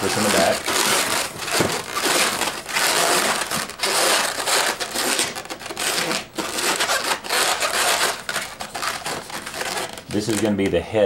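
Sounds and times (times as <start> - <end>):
balloons rubbing: 0.0 - 10.8.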